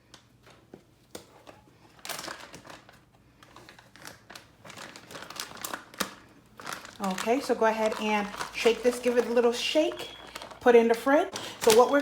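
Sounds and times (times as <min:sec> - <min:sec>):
plastic bag crinkling: 0:01.5 - 0:12.0.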